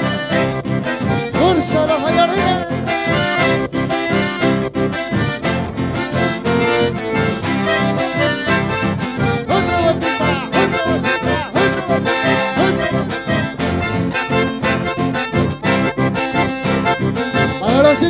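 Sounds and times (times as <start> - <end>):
button accordions playing: 0.0 - 18.0
guitar: 0.0 - 18.0.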